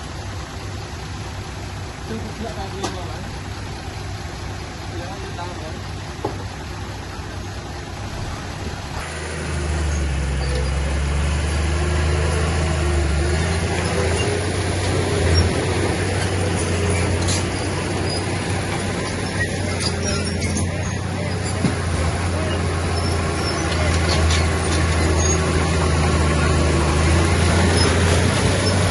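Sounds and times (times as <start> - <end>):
heavy diesel engine running: 0.0 - 28.9.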